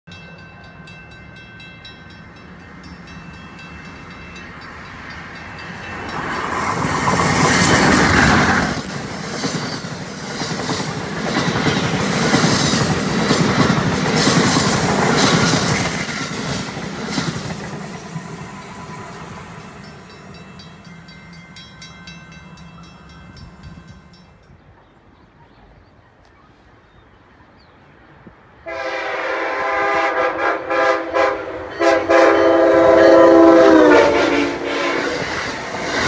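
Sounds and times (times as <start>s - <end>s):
train passing at speed: 0.1s - 25.7s, 26.5s - 36.0s.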